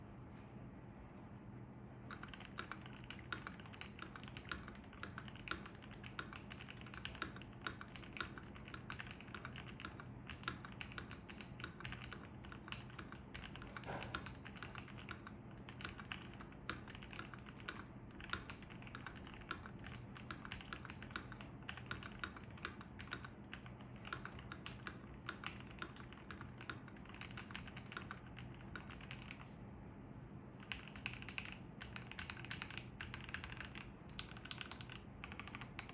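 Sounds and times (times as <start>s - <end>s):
mechanical keyboard typing: 2.1s - 29.4s, 30.6s - 35.9s.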